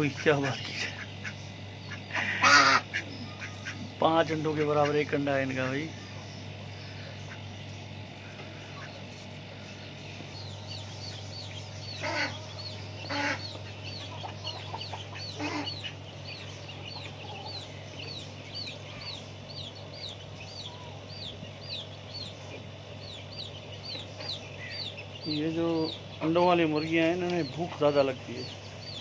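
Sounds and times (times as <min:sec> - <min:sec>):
low hum: 0:00.0 - 0:27.5
chicks peeping: 0:00.0 - 0:29.0
harsh adult bird calls: 0:00.0 - 0:29.0.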